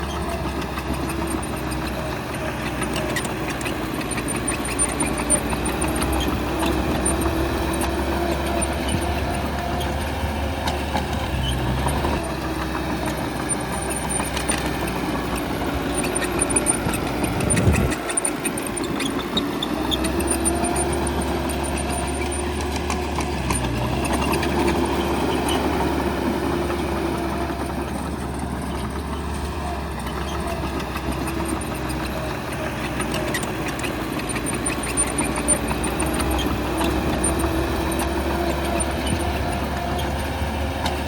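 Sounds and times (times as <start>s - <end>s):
bulldozer diesel engine running: 0.0s - 41.0s.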